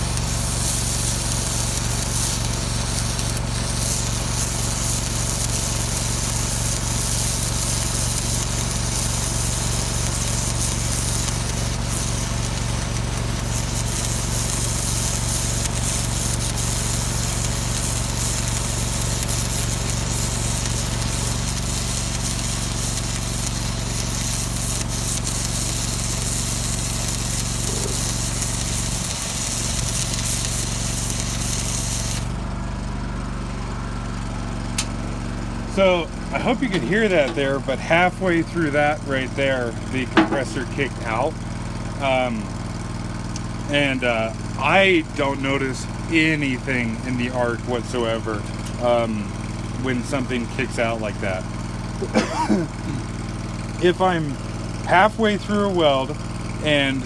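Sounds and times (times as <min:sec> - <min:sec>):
air compressor running: 0:00.0 - 0:57.0
welder engine running: 0:00.0 - 0:57.0
welding arc crackling and hissing: 0:00.0 - 0:57.0.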